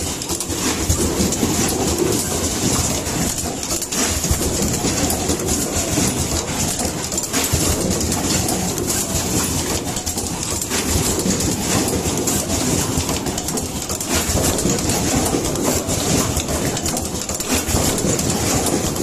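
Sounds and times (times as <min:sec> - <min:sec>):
crimping machine clicking: 0:00.0 - 0:19.0.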